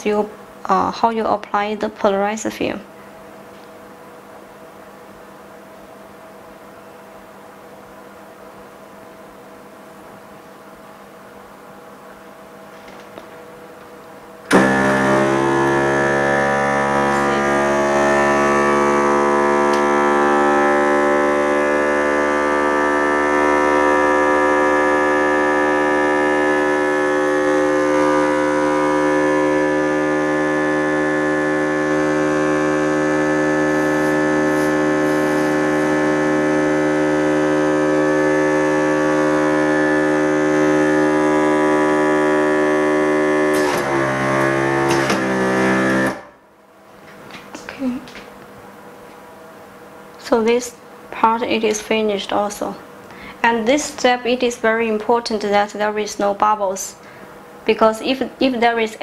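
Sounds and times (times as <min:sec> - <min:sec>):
loud steady hum: 0:00.0 - 0:59.0.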